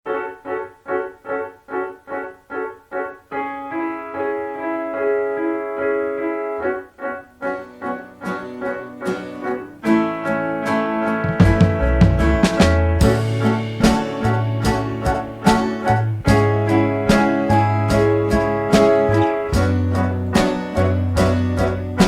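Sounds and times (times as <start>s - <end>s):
piano-like keyboard music: 0.1s - 22.0s.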